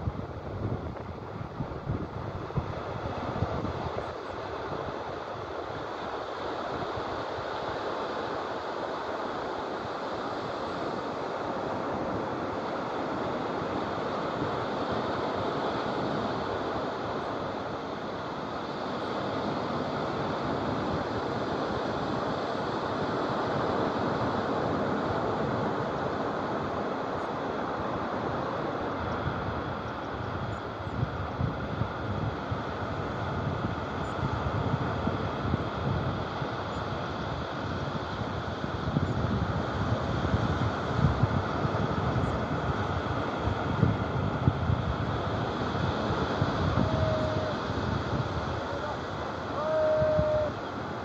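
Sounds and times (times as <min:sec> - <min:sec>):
waves washing on beach: 0:00.0 - 0:51.0
wind rumble on microphone: 0:00.0 - 0:51.0.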